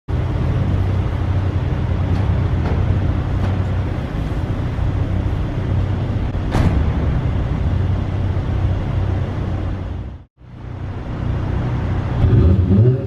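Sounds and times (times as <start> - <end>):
car engine idling: 0.1 - 12.8.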